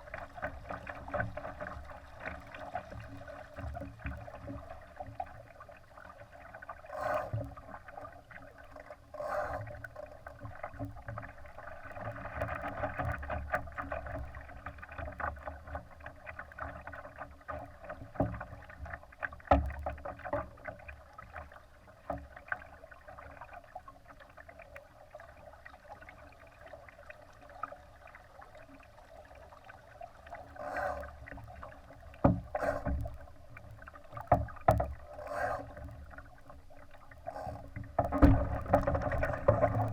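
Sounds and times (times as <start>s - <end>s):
water splashing against hull: 0.0s - 39.9s.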